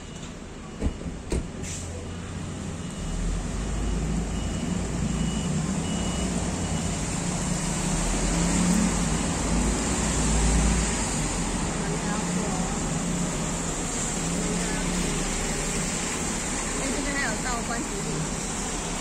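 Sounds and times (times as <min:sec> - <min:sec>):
bus diesel engine rumbling: 0:00.0 - 0:19.0
tyres hissing on wet road: 0:01.6 - 0:19.0.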